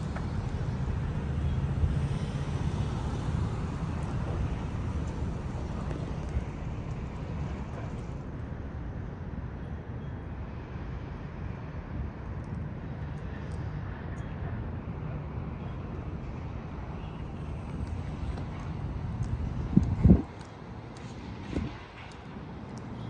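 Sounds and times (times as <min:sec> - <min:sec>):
distant traffic hum: 0:00.0 - 0:23.0.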